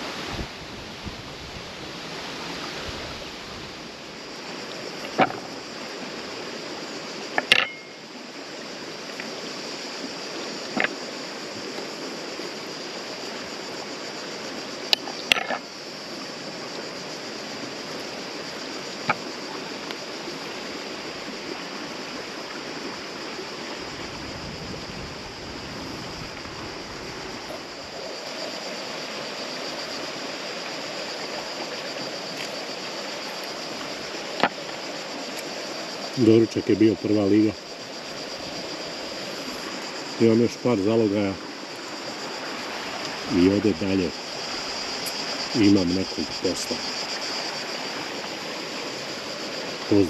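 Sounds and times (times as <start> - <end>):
river water flowing: 0.0 - 50.0.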